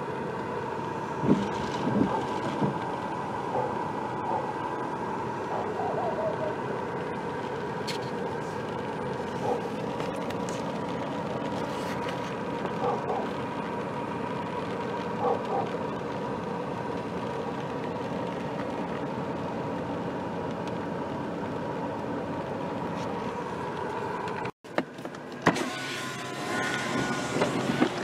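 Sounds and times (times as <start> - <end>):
car engine hum: 0.0 - 28.0
heavy rain hiss: 0.2 - 24.0.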